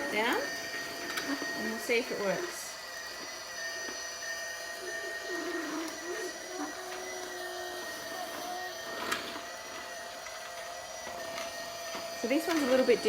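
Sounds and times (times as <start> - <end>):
toy vacuum motor whine: 0.0 - 13.0.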